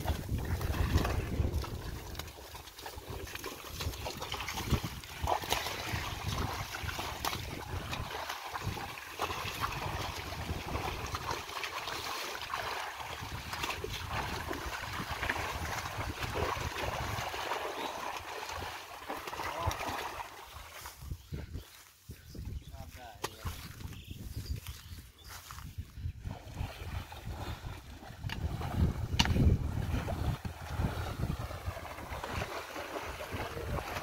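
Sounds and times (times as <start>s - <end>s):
cart sloshing through mud: 0.0s - 21.0s, 26.4s - 34.0s
water splashes: 0.0s - 21.2s, 26.2s - 34.0s.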